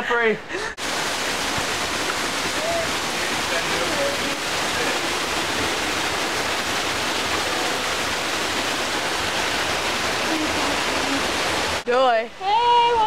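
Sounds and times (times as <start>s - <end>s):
waterfall rushing: 0.8s - 13.0s.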